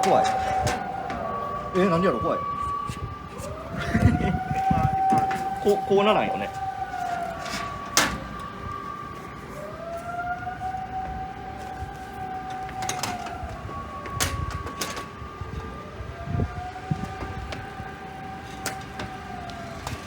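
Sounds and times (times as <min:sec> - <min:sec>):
siren wailing: 0:00.0 - 0:20.0.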